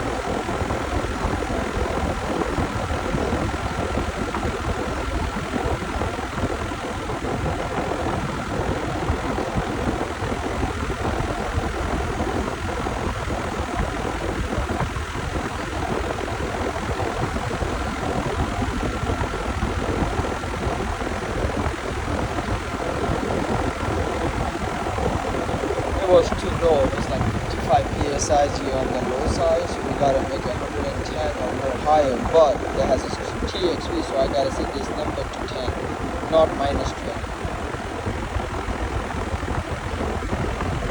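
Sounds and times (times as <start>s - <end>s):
air conditioner condenser fan running: 0.0s - 40.9s
faint steady whine: 0.0s - 40.9s.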